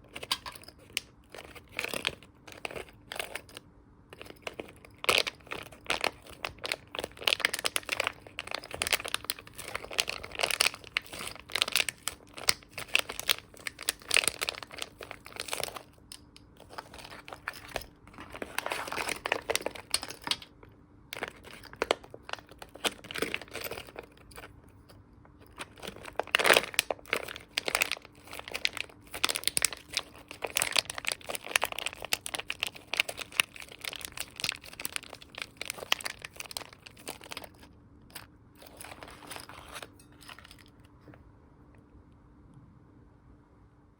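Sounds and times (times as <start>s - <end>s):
squishy toys crinkling: 0.0s - 3.6s, 4.2s - 24.8s, 25.4s - 40.8s.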